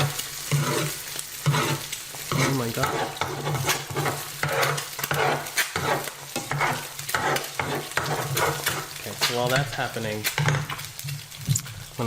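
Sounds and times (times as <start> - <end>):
eggs sizzling in a skillet: 0.0 - 12.0
utensil scraping a skillet: 0.0 - 12.0.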